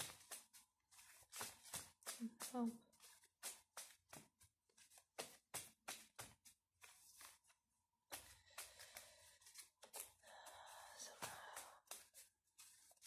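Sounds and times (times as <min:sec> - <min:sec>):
cards being shuffled by hand: 0:00.0 - 0:13.0.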